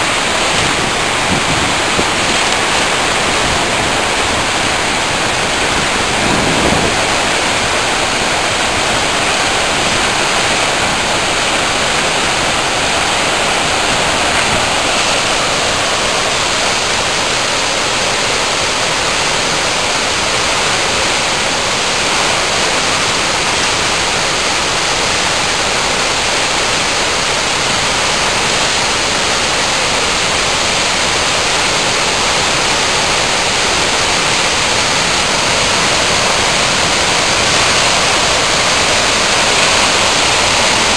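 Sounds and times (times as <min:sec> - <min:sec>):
waterfall torrent rushing: 0:00.0 - 0:40.9.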